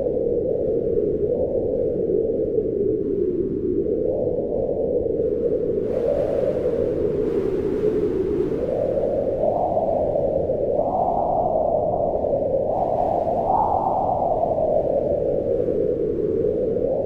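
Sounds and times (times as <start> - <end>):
wind blowing in gusts: 0.0 - 17.0.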